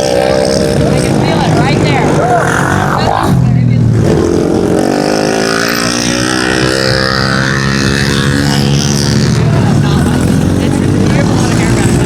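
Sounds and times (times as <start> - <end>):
pit bike engines racing: 0.0 - 12.0.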